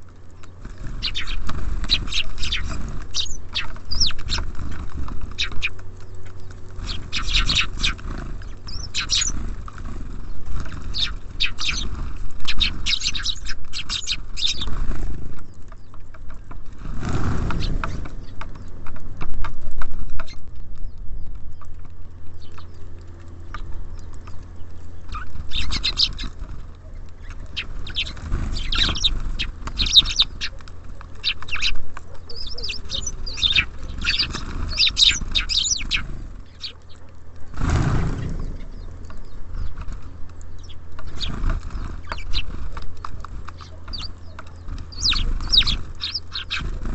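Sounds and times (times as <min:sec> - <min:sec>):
songbirds chirping: 0:00.0 - 0:46.9
steady low hum: 0:00.0 - 0:46.9.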